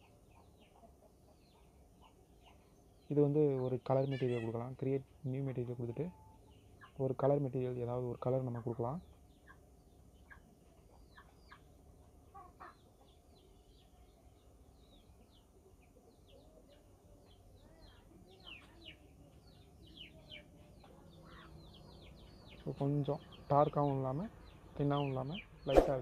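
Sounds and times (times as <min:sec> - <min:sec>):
faint bird chirps: 0:00.0 - 0:26.0
low clucking bird calls: 0:00.0 - 0:26.0.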